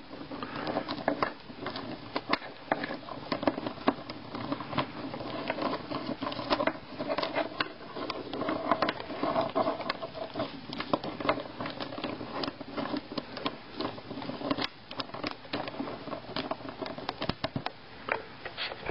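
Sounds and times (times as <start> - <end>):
wooden blocks clicking: 0.1 - 18.2.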